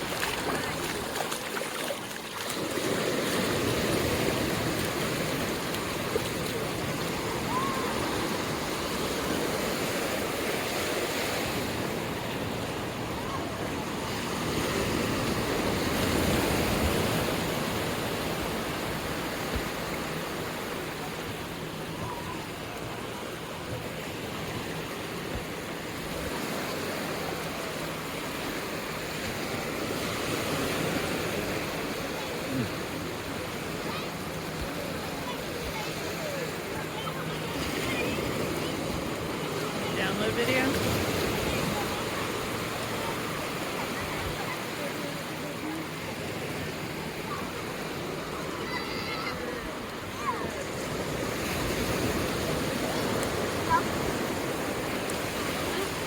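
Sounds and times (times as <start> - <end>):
surf washing onto beach: 0.0 - 56.0.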